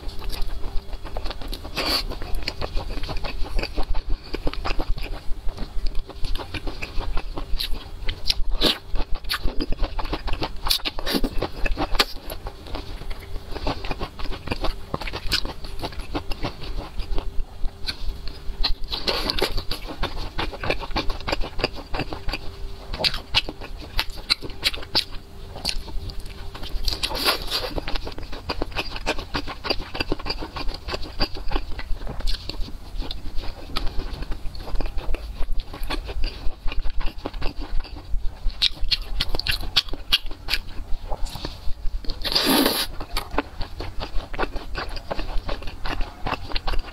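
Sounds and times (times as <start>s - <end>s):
wet chewing mouth sounds: 0.0s - 46.9s.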